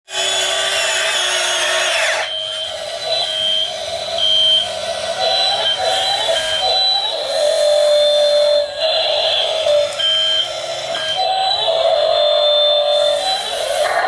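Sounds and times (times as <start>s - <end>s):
small electric motors whining: 0.1s - 14.0s.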